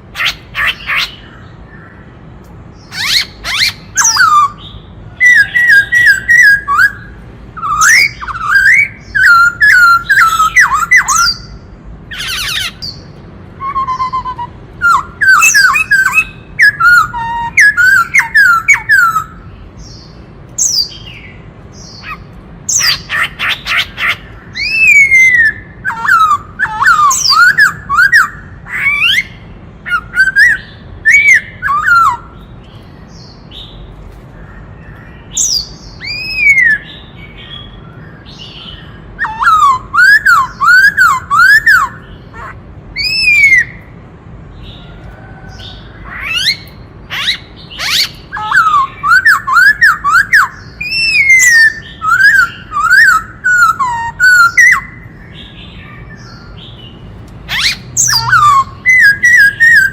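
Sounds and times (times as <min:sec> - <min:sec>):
bird singing whistled phrases: 0:02.8 - 0:19.5, 0:20.6 - 0:32.4, 0:35.3 - 0:43.8, 0:46.1 - 0:56.7, 0:57.5 - 0:59.9.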